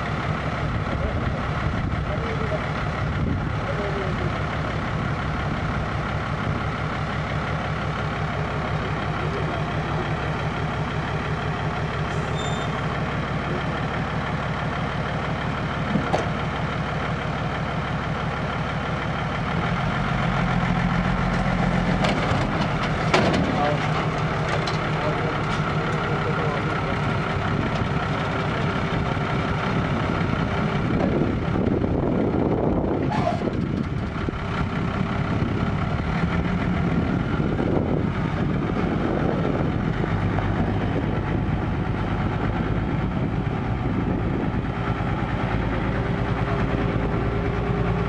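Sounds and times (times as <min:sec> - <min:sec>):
diesel truck engine idling: 0:00.0 - 0:48.0.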